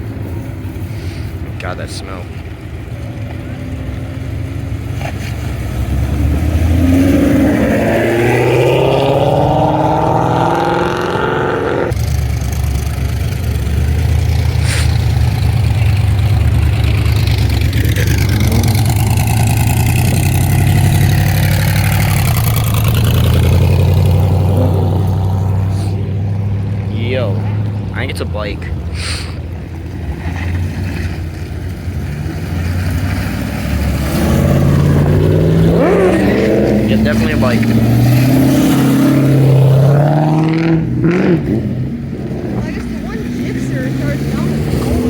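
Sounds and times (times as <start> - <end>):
car engines revving: 0.0 - 45.0.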